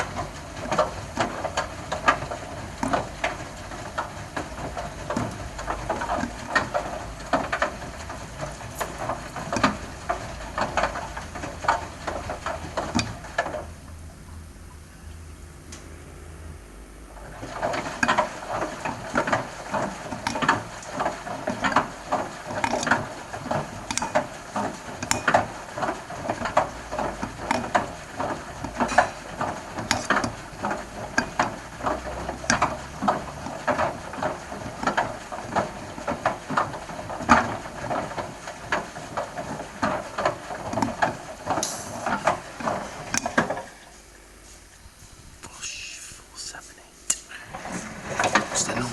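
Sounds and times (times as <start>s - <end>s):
pipe clattering in washing machine drum: 0.0s - 13.7s, 17.3s - 43.7s.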